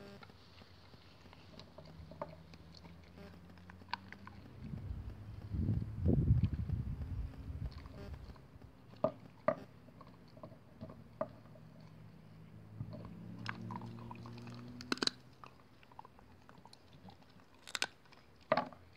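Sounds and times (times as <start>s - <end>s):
dog chewing wooden stick: 0.2s - 18.9s.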